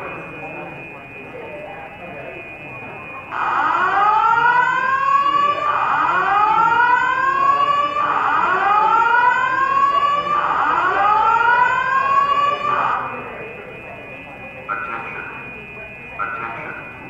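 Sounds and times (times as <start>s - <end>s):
fire alarm whooping: 0.0s - 17.0s.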